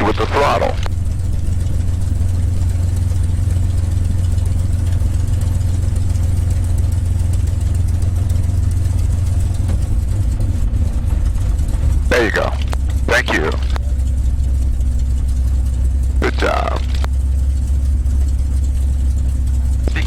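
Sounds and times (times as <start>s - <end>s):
aircraft engine droning: 0.0s - 20.0s.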